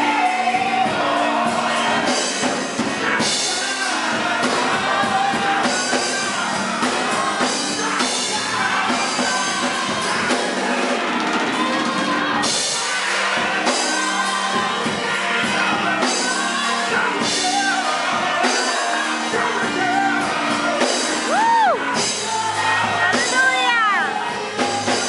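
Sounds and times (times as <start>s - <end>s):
man singing gospel song: 0.0s - 10.9s, 12.7s - 25.0s
band accompaniment: 0.0s - 25.0s.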